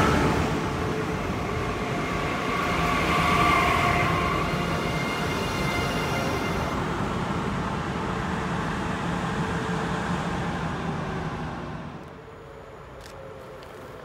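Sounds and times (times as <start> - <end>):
electric train rolling past: 0.0 - 14.0.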